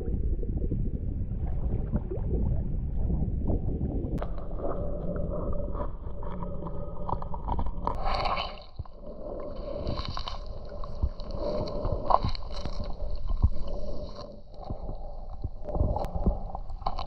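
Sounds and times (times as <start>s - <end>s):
underwater clicks and crackles: 0.0s - 17.0s
underwater water rumble: 0.0s - 17.0s.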